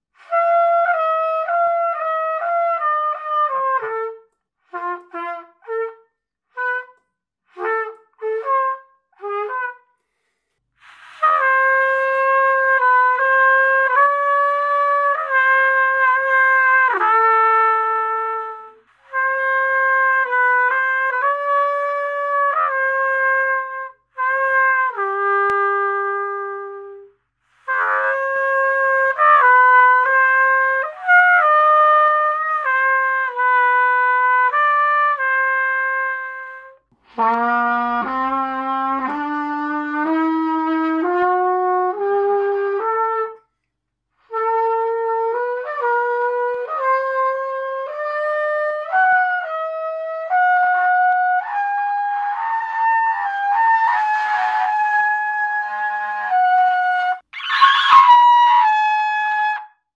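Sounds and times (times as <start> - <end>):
trumpet notes: 0.2 - 43.5, 44.2 - 59.8.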